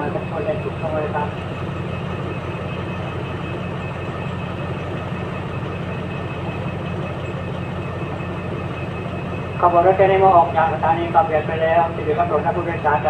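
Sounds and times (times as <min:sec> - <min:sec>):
faint high whine: 0:00.0 - 0:13.0
locomotive idling hum: 0:00.0 - 0:13.0.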